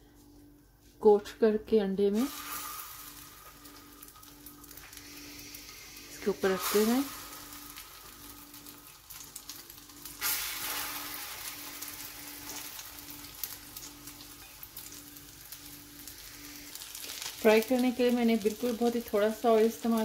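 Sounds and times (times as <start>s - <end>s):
patties sizzling in oil: 2.1s - 20.0s.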